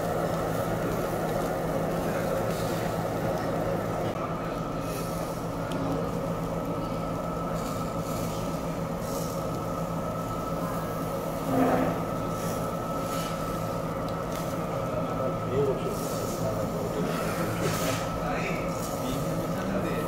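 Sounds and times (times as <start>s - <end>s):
exhaust fan humming: 0.0s - 20.0s.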